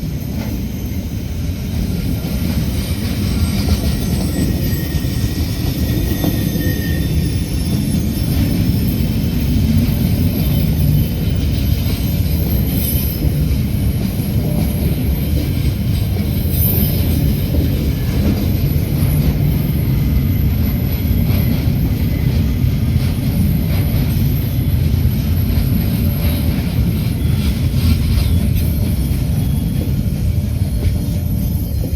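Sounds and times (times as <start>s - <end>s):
train wheels rumbling on rails: 0.0s - 31.9s.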